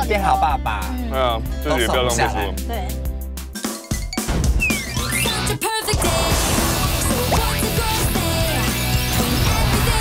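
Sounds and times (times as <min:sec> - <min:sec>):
upbeat music with drum kit: 0:00.0 - 0:10.0.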